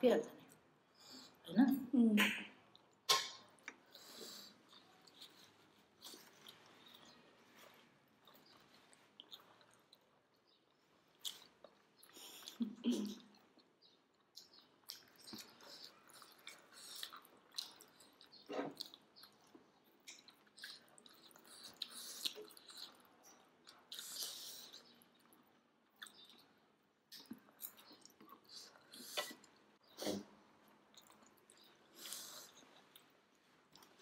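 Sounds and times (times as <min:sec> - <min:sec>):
people chewing food: 0:02.2 - 0:34.0.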